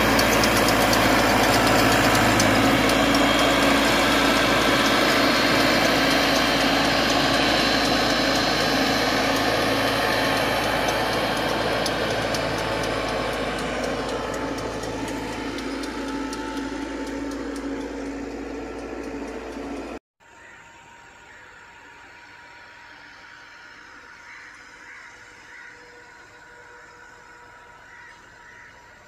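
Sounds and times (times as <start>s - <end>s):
engine humming steadily: 0.0s - 29.0s.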